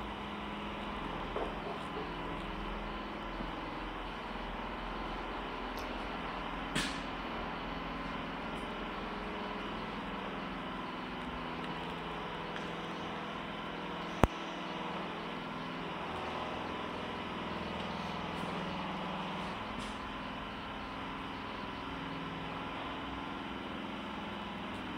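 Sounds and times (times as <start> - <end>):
steady mechanical hum: 0.0 - 24.9.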